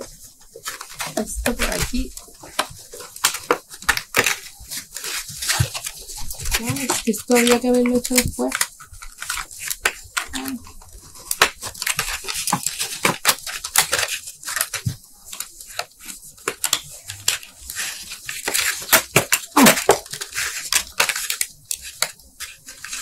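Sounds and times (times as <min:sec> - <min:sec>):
plastic cups crinkling and clicking: 0:00.0 - 0:23.0.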